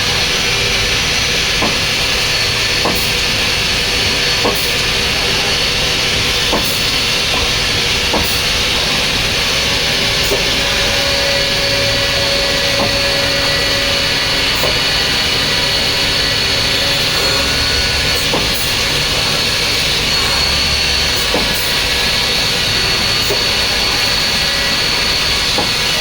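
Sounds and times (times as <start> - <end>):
drilling machine whirring hiss: 0.0 - 26.0
steady machine tone: 0.0 - 26.0.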